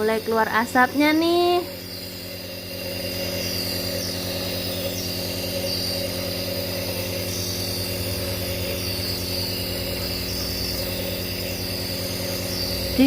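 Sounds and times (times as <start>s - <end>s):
high airy wavering tone: 0.0s - 13.0s
nebulizer motor hum: 0.0s - 13.0s.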